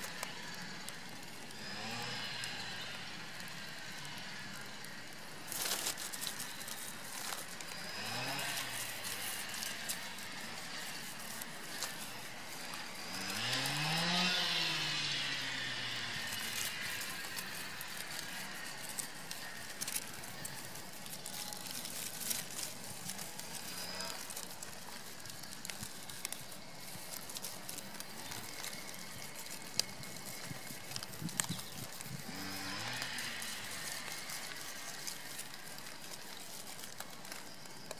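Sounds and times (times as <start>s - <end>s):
small clicks and rustles: 0.0s - 37.9s.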